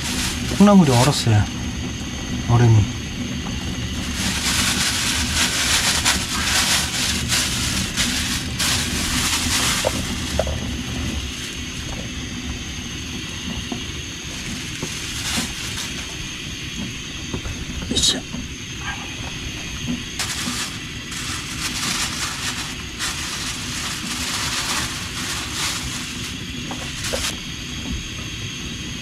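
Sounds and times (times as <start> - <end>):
crinkling frozen package: 0.0 - 1.5, 3.5 - 18.6, 19.2 - 27.5.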